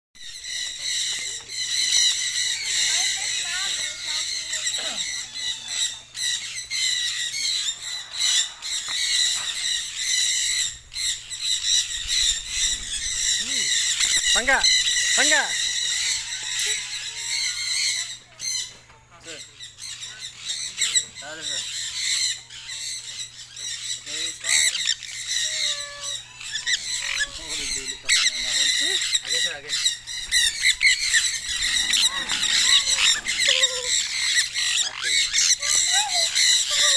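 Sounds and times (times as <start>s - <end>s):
birds squawking and chirping: 0.2s - 36.9s.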